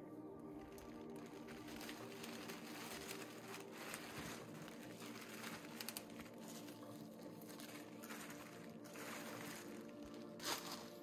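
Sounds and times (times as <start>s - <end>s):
quiet background music: 0.0s - 11.0s
rustling and crinkling handling: 0.2s - 11.0s.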